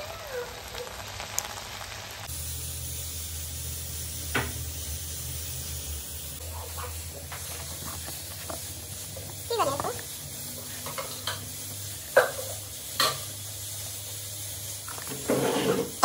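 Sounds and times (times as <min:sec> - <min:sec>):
curry boiling in a pan: 0:00.0 - 0:16.0.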